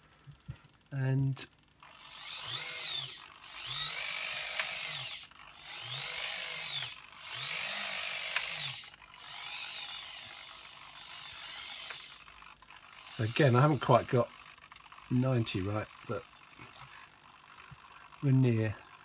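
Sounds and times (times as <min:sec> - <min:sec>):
electric motor whining: 0:01.8 - 0:18.2.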